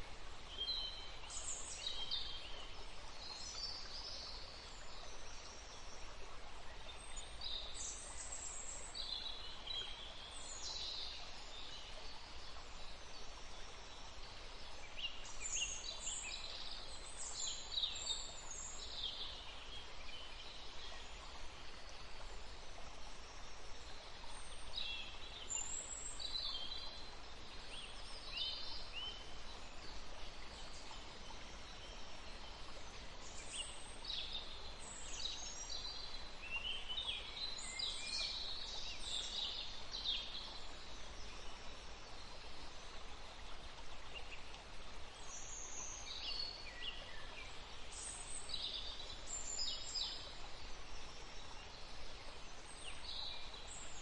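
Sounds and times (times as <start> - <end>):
forest stream rushing: 0.0 - 54.0
songbirds chirping: 0.0 - 54.0.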